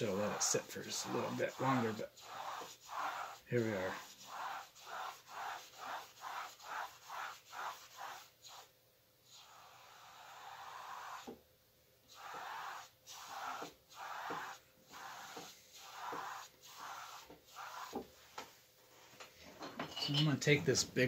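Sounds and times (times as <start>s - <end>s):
brush scrubbing paint on canvas: 0.0s - 8.7s, 9.3s - 11.4s, 12.1s - 19.0s.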